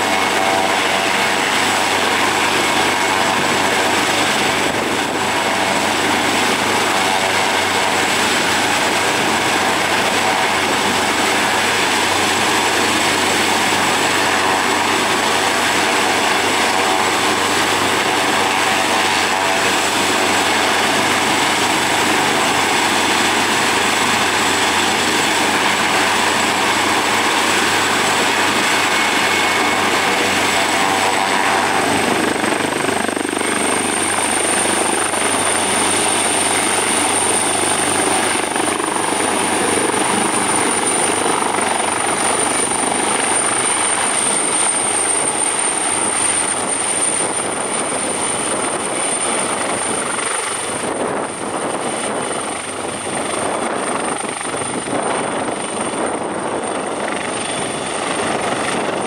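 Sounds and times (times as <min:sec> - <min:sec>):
helicopter rotor and engines: 0:00.0 - 0:59.0
high turbine whine: 0:00.0 - 0:59.0.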